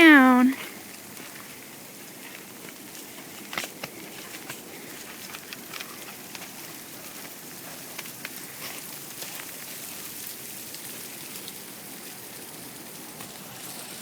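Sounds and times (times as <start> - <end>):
freezing rain pattering: 0.2 - 14.0.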